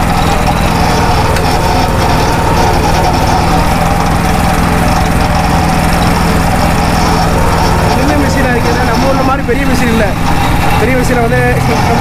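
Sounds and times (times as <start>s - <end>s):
juice press machine hum: 0.0s - 12.0s.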